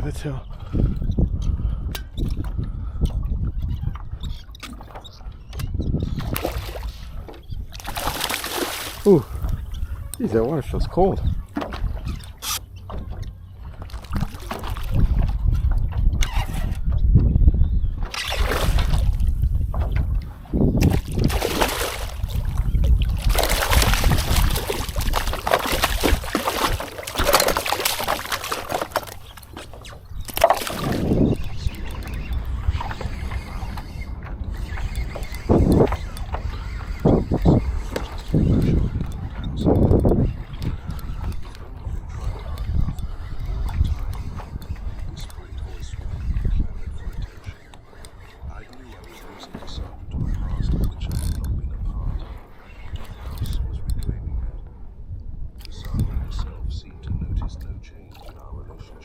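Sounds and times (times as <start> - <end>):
water lapping against kayak hull: 0.0 - 59.0
wind rumbling on microphone: 0.0 - 59.0.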